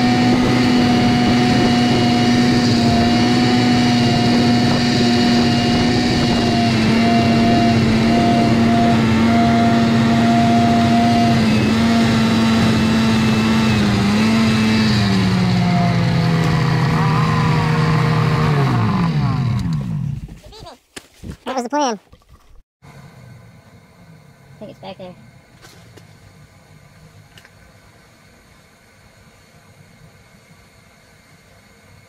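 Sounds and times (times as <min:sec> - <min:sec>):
two-stroke engine running: 0:00.0 - 0:20.4, 0:22.9 - 0:28.6.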